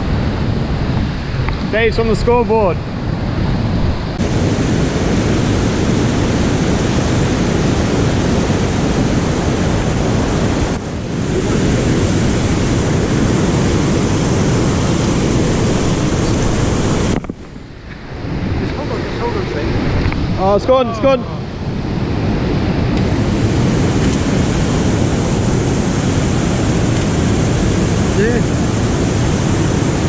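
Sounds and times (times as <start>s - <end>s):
fast river water rushing: 0.0s - 30.0s.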